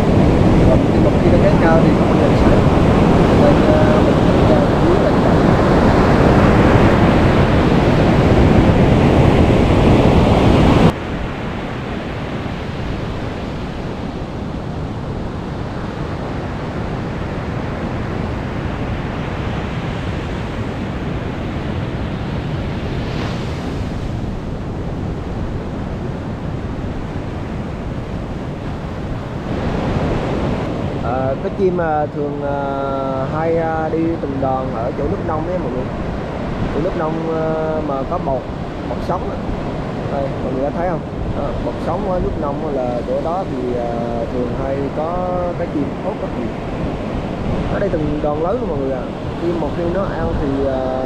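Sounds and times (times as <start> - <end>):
sea surf breaking on a beach: 0.0 - 51.0
wind on the microphone: 0.0 - 51.0.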